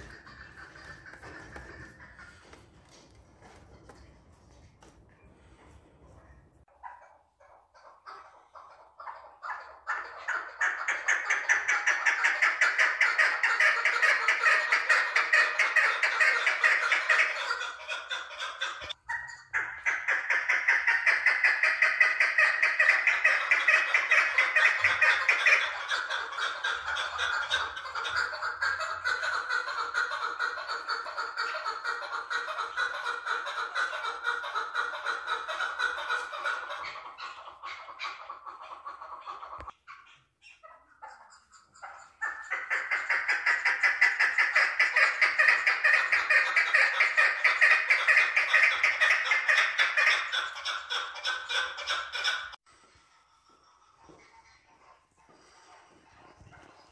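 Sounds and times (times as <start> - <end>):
partridge clucking calls: 0.0 - 5.6, 6.2 - 52.6.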